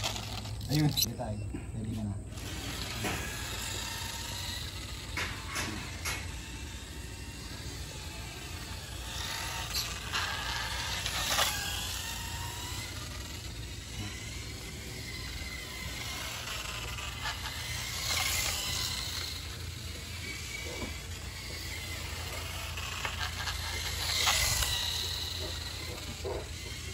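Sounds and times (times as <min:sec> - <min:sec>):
electric motor whine: 0:00.0 - 0:01.4, 0:02.0 - 0:26.9.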